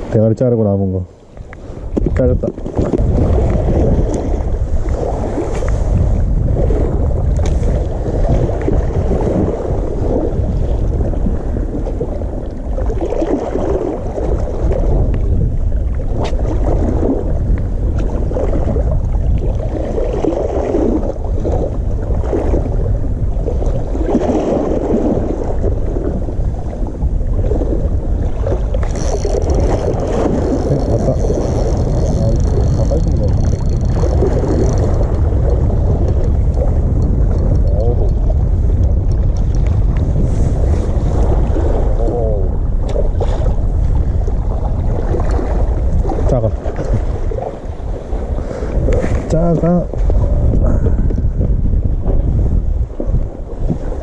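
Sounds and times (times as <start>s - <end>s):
wind rumble on microphone: 0.0s - 54.0s
sea water washing against rocks: 1.5s - 54.0s.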